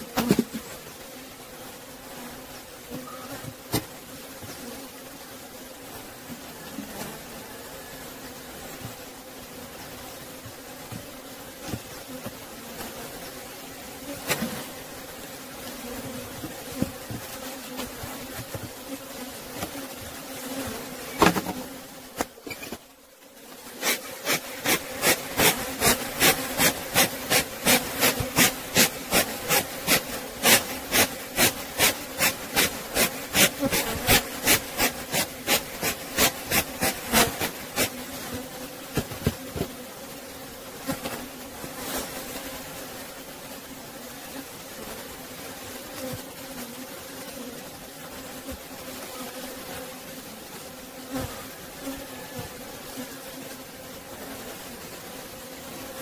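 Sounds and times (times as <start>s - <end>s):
honeybees buzzing: 0.0s - 56.0s.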